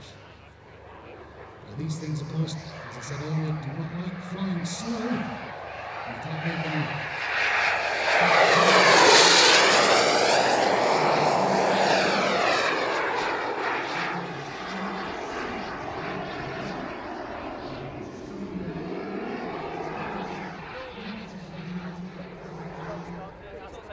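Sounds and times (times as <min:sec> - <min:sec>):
jet turbine roar and whine: 0:00.0 - 0:23.9.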